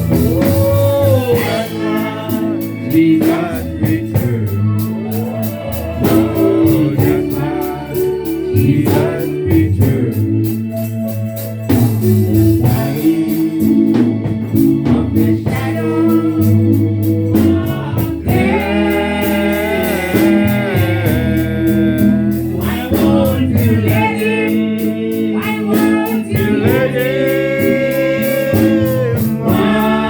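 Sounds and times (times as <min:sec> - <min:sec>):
gospel singing with instruments: 0:00.0 - 0:30.0.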